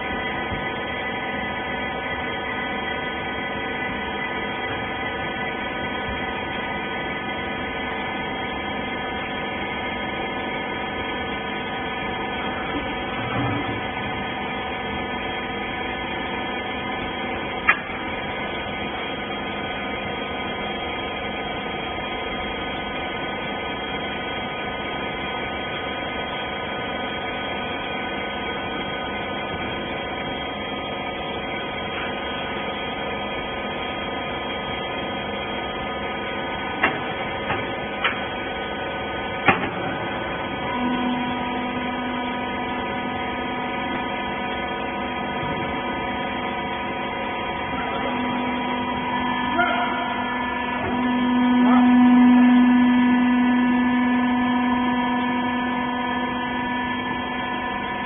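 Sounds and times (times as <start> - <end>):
baler machine hum: 0.0 - 58.0
steady machine tone: 0.0 - 58.0.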